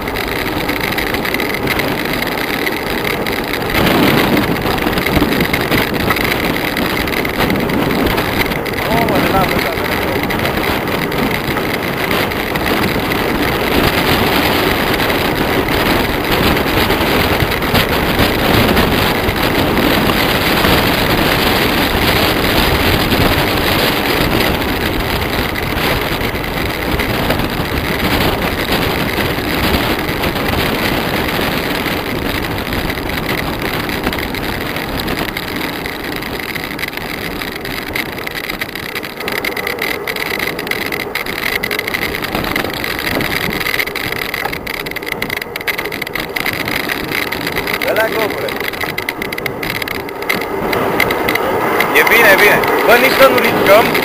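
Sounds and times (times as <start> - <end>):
wind roaring on microphone: 0.0 - 54.0.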